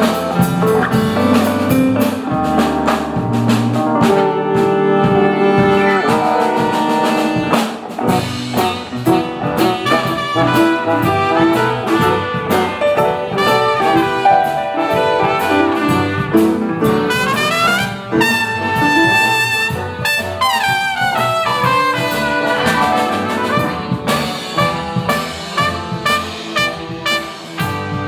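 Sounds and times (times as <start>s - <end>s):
band with brass horns: 0.0s - 28.0s
drums: 0.0s - 28.0s.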